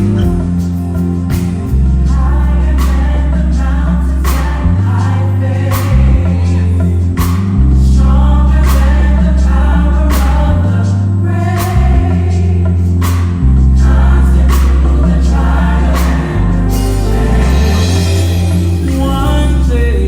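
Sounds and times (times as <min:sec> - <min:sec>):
percussion hits: 0:00.0 - 0:08.0, 0:08.6 - 0:09.4, 0:10.1 - 0:10.7, 0:11.5 - 0:20.0
choir singing: 0:00.0 - 0:20.0
electric bass deep notes: 0:00.0 - 0:20.0.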